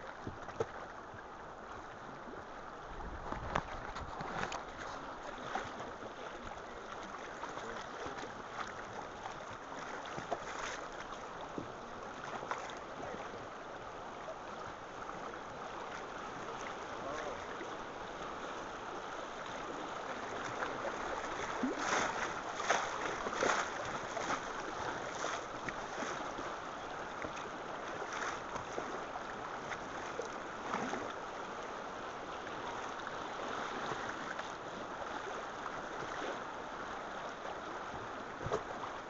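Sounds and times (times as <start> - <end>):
river water rushing: 0.0 - 39.0
water slapping boat hull: 0.0 - 39.0.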